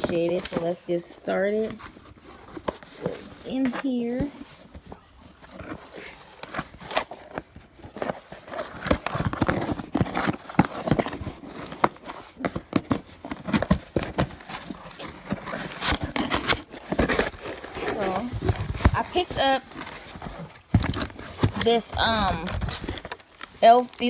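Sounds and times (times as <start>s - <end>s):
cardboard scraping and rustling: 0.0s - 24.0s.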